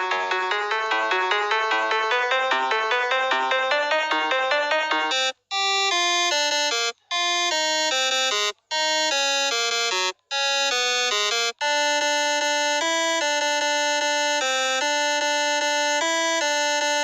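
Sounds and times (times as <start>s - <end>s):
electronic ringtone tune: 0.0s - 17.0s.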